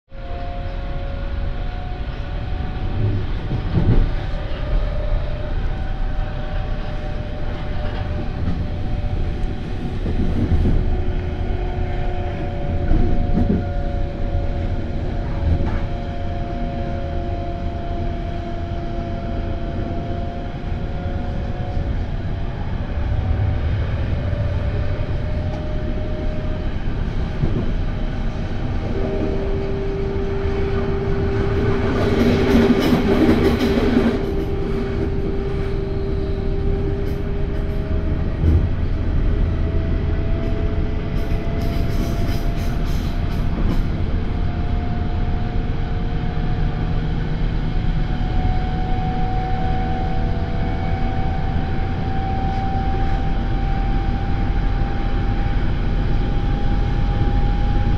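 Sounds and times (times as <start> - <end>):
train wheels rumbling on rail: 0.1 - 57.9
train whine: 0.1 - 57.9.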